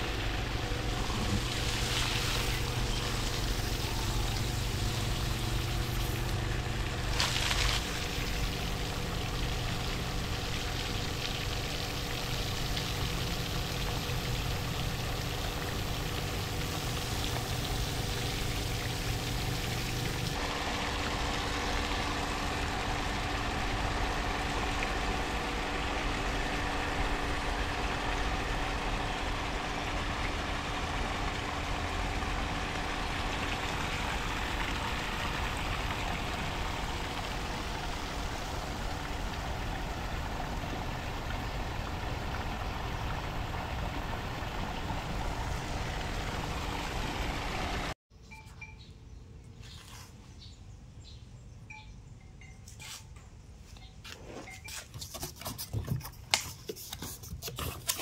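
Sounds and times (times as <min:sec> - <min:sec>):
water pump humming: 0:00.0 - 0:48.0.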